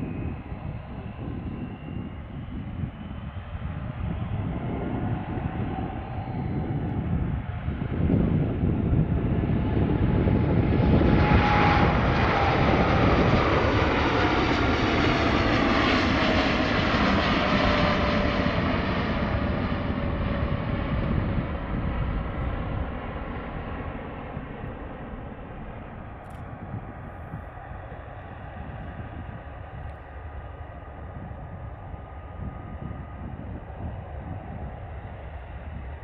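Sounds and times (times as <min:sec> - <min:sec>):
jet engine whine: 0:00.0 - 0:36.0
jet engines at takeoff: 0:00.0 - 0:36.0.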